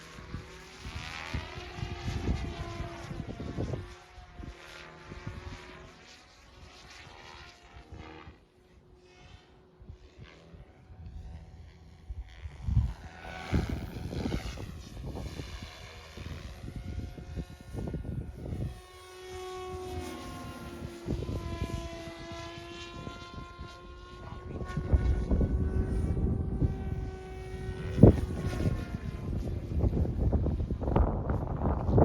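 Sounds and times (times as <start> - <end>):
rc helicopter rotor whine: 0.0 - 32.0
wind buffeting microphone: 0.1 - 6.0, 9.2 - 32.0.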